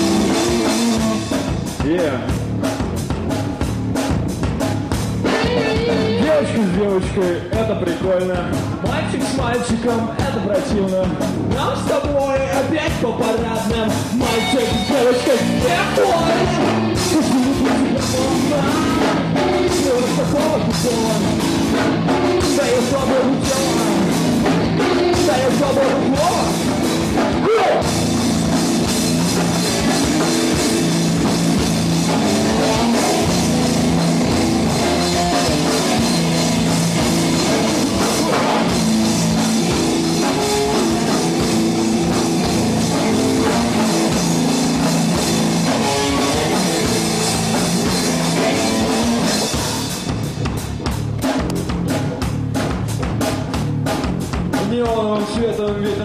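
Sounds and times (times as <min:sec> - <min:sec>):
metal band playing instrumental: 0:00.0 - 0:56.0.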